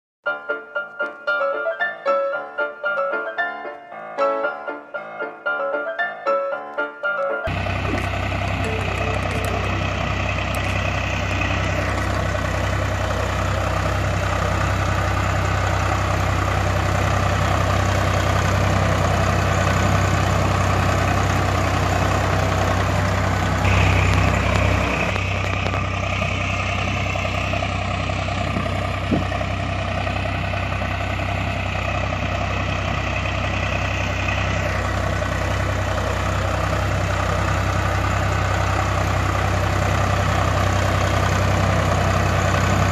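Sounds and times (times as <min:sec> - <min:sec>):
tractor diesel engine idling: 0:07.5 - 0:42.9.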